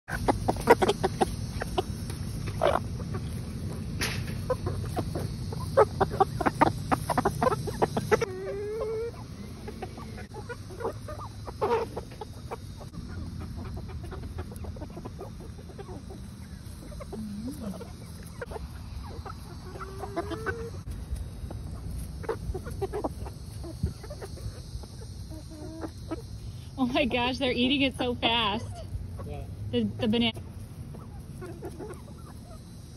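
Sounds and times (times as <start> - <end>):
hens pecking with sharp taps: 0.1 - 26.4, 30.3 - 32.7
hen short rising calls: 0.1 - 32.9
hens clucking: 0.1 - 32.9.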